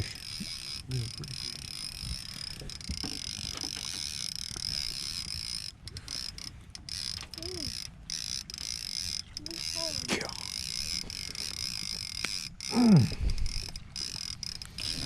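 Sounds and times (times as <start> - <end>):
fishing reel clicking whirr: 0.0 - 15.0.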